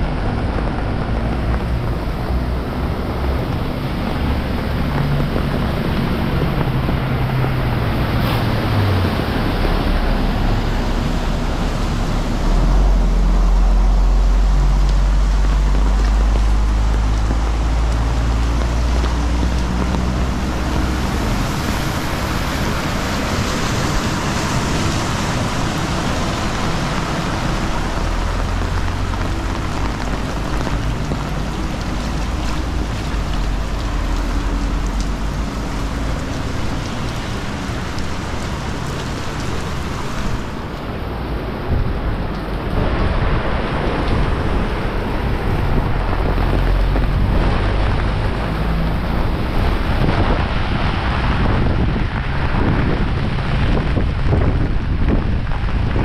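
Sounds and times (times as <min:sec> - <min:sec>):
heavy rain pouring: 0:00.0 - 0:56.0
wind buffeting microphone: 0:00.0 - 0:56.0.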